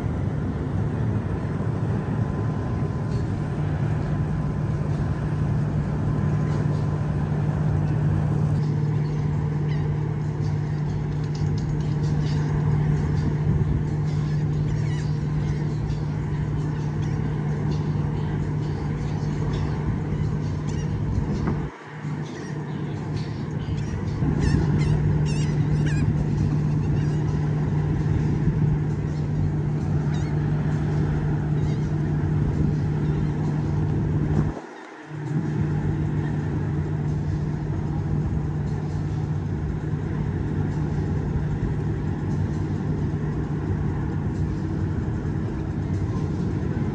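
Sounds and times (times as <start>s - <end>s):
ship horn low blasts: 0.0s - 46.9s.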